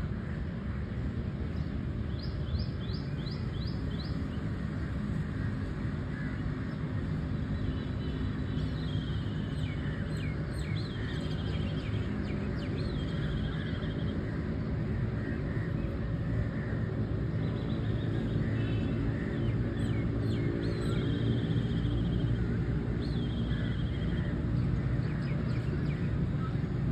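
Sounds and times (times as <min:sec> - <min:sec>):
low outdoor background rumble: 0:00.0 - 0:26.9
small birds singing: 0:01.4 - 0:26.9.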